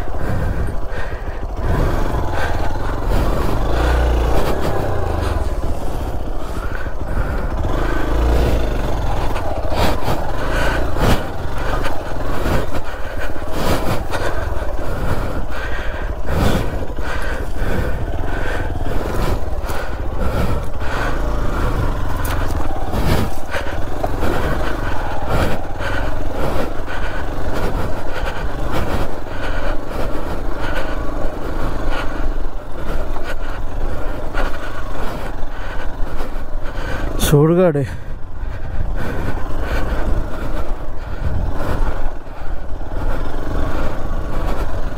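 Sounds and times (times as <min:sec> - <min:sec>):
knocks and clatter of bike: 0:00.0 - 0:44.9
motorcycle engine running: 0:00.0 - 0:44.9.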